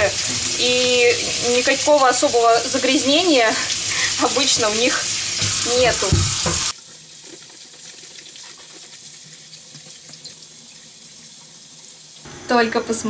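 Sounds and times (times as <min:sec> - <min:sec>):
tap water running into sink: 0:00.0 - 0:11.6.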